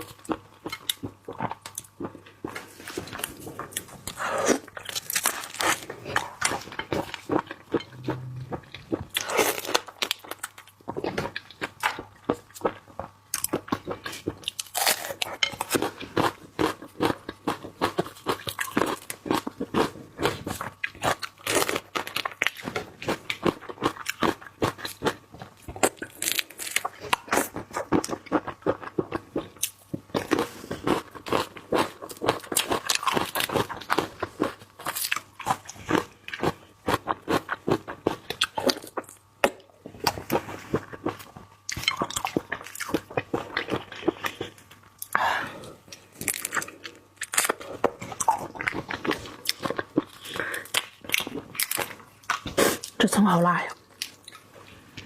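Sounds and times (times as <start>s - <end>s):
crunching and wet chewing: 0.0s - 53.0s.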